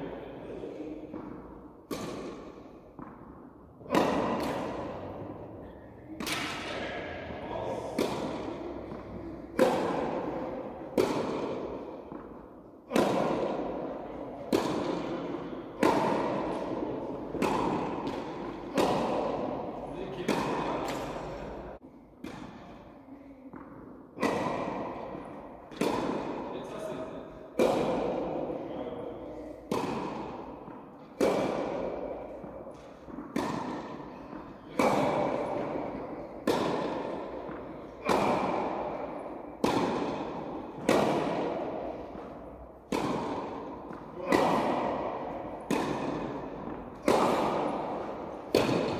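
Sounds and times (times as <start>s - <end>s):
tennis ball struck with racket: 0.5s - 48.9s
ball bouncing on hard court: 1.1s - 21.6s, 22.2s - 27.0s, 27.6s - 48.9s.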